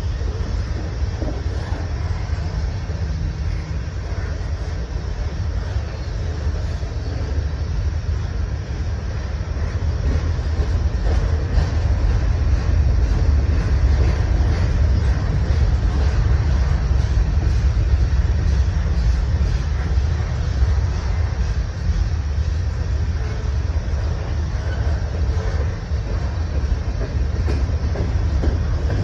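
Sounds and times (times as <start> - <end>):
freight cars rumbling on rails: 0.0 - 29.0.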